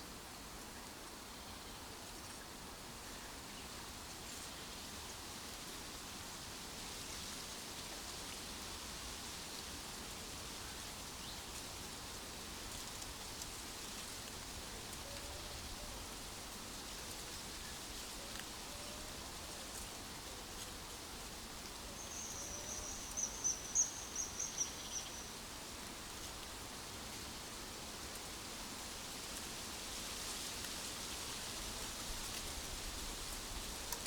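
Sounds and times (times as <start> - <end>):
hissing nature ambience: 0.0 - 34.0.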